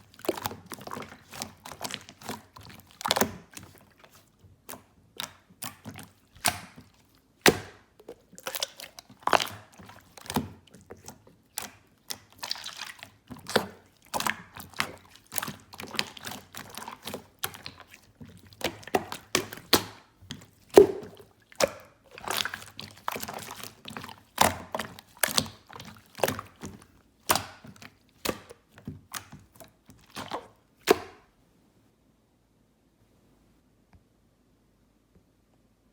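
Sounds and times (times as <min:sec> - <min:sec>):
hands squeezing slime: 0:00.0 - 0:31.2.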